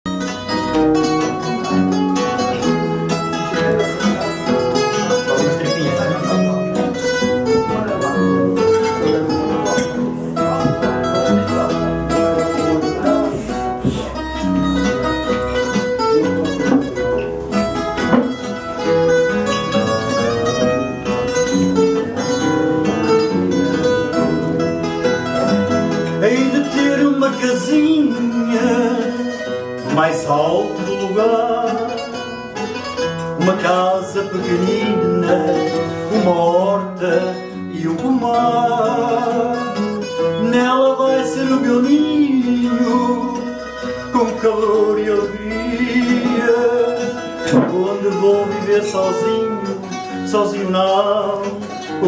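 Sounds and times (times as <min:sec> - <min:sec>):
plucked guitar melody: 0:00.0 - 0:52.0.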